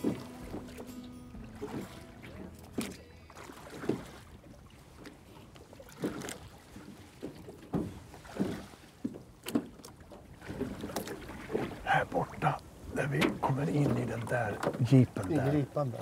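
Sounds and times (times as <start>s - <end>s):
pole splashing and knocking hull: 0.0s - 12.4s, 13.1s - 16.0s
water lapping: 0.0s - 16.0s.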